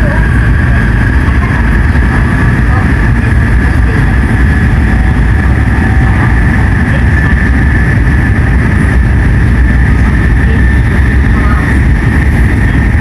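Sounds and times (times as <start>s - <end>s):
high hum: 0.0s - 13.0s
train cabin low rumble: 0.0s - 13.0s.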